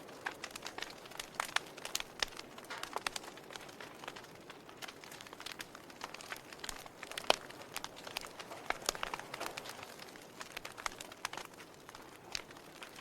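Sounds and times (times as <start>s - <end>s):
log fire crackling and popping: 0.0s - 13.0s.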